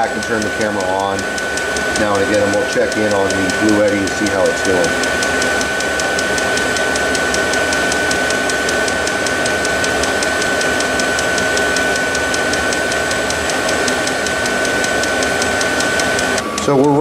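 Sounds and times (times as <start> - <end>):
fuel pump ticking: 0.0 - 17.0
heater blower whine: 0.0 - 17.0.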